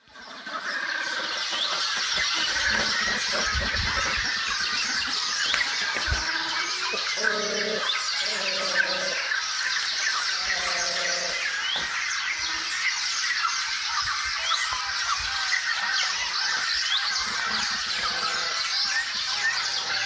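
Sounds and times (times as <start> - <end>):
birds chirping chatter: 0.0 - 20.0
low drawn-out bird calls: 0.0 - 20.0.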